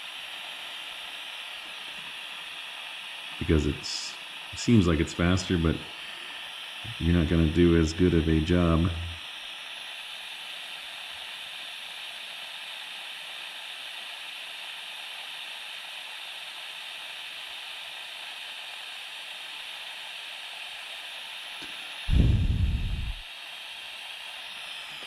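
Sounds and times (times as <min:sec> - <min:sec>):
gas soldering iron hissing: 0:00.0 - 0:25.0.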